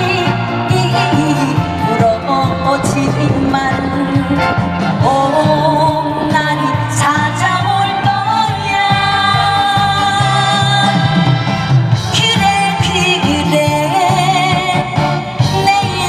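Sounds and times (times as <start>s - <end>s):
amplified backing track: 0.0s - 16.0s
woman singing into microphone: 0.0s - 16.0s.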